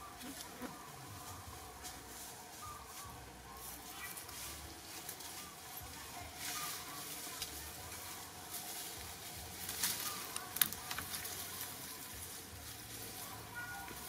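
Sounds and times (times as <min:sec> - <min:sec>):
dry leaves rustling: 0:00.0 - 0:14.0.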